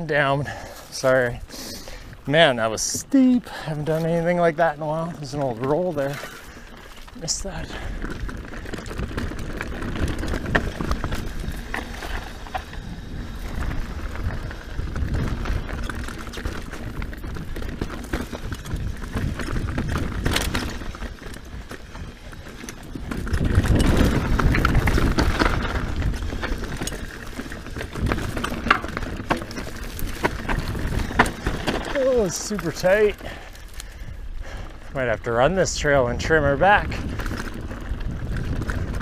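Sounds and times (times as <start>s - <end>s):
bike rattling and knocking: 0.0s - 39.0s
bike tyre rumble on dirt: 0.0s - 39.0s.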